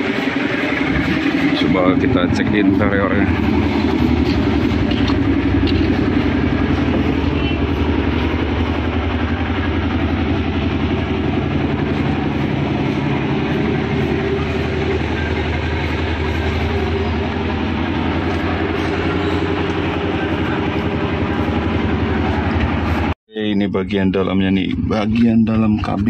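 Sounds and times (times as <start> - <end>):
diesel bus engine idling: 0.0 - 26.0.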